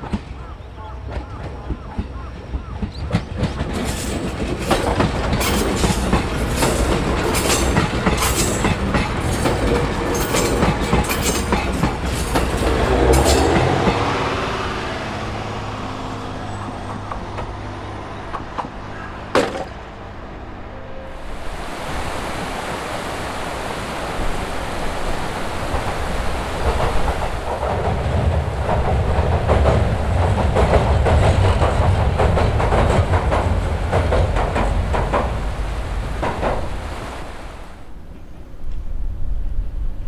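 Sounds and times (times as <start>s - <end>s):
train wheels clattering over rail joints: 0.0s - 22.2s, 25.3s - 38.9s
low train engine hum: 0.0s - 40.0s.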